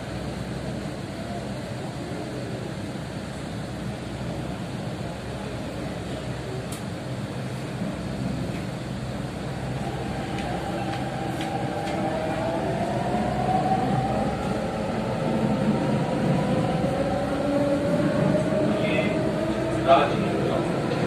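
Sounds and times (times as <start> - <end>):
train rumble and hiss: 0.0 - 21.0.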